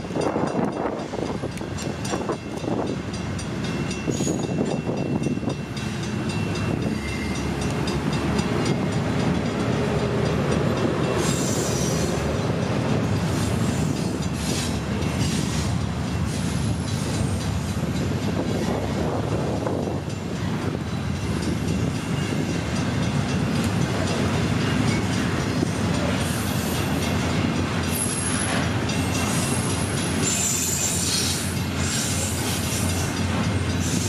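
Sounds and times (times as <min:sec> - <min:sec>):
train wheels rumbling on rail: 0:00.0 - 0:34.0
wheels clicking on rail: 0:00.0 - 0:34.0.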